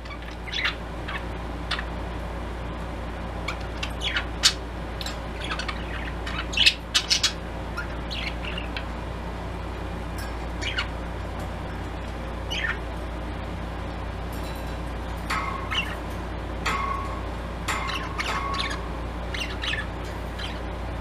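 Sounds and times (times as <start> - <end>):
budgies chirping: 0.0 - 2.0, 3.5 - 9.1, 10.2 - 13.0, 13.8 - 20.9.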